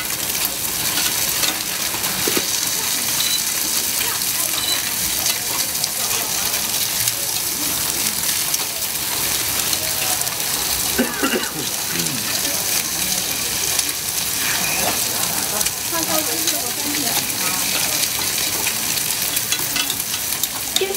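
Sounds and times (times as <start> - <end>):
food sizzling: 0.0 - 20.9.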